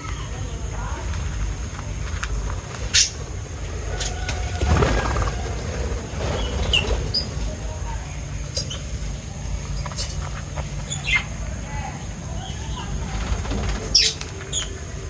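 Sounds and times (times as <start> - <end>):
small birds chirping: 0.0 - 15.0
low rumble: 0.2 - 15.0.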